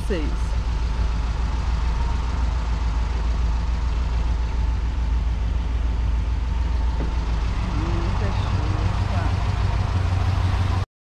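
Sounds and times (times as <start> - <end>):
van engine rumble: 0.0 - 10.9.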